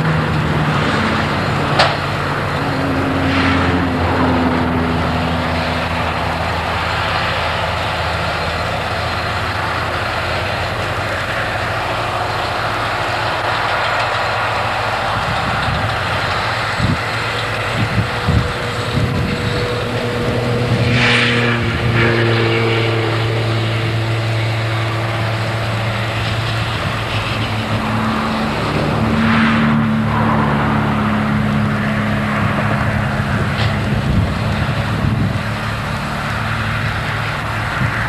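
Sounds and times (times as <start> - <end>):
round baler working: 0.0 - 38.0
tractor engines running: 0.0 - 38.0.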